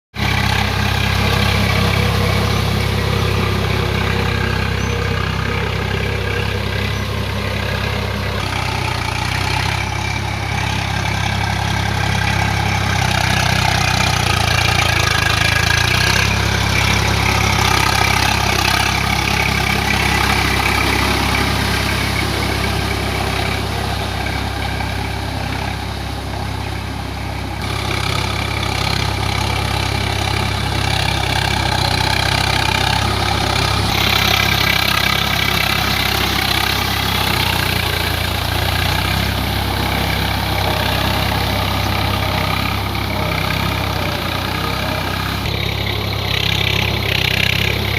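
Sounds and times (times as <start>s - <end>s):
tractor diesel engine running: 0.1s - 47.9s.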